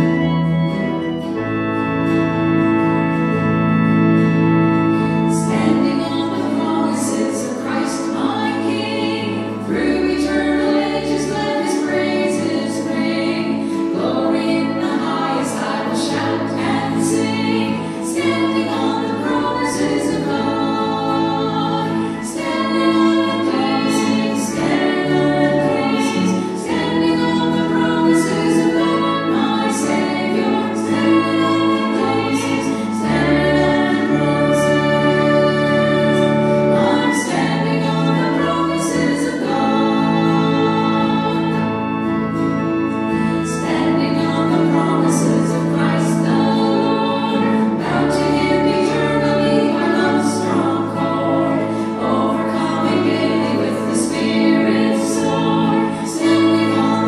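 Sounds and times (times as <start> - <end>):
acoustic guitar: 0.0 - 57.0
woman singing a hymn: 5.2 - 57.0.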